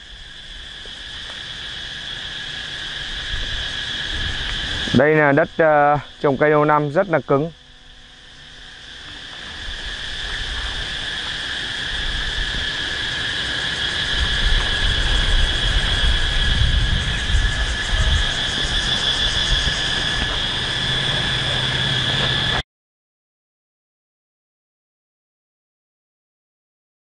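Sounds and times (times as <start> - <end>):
insects chirring: 0.0 - 22.6
low rumbling noise: 0.0 - 22.6.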